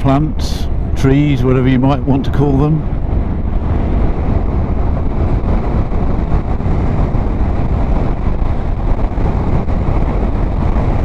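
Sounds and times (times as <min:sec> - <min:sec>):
motorcycle engine and road noise: 0:00.0 - 0:11.0
wind noise on microphone: 0:00.0 - 0:11.0.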